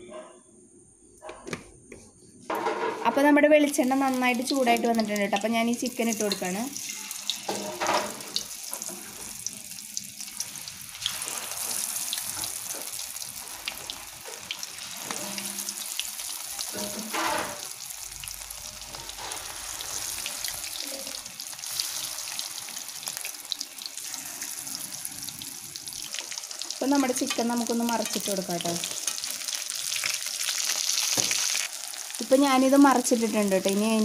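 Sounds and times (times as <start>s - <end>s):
chicken deep-frying in oil: 3.7s - 34.0s.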